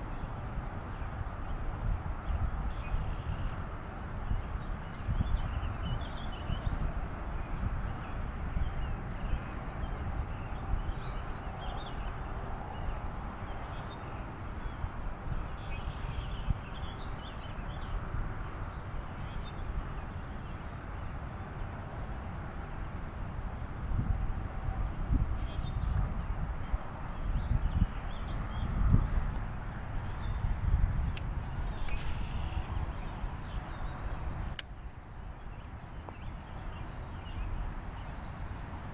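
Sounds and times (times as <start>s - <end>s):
wind buffeting microphone: 0.0s - 38.9s
small birds chirping: 2.2s - 21.2s, 24.8s - 38.9s.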